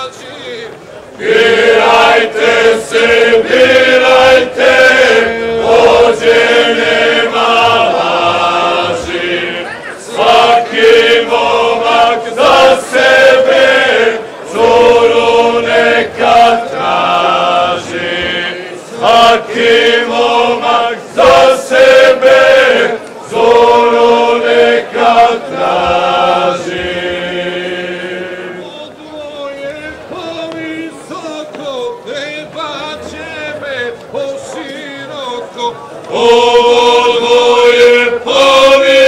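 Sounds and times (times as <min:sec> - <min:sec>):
group singing unaccompanied: 0:01.1 - 0:39.0.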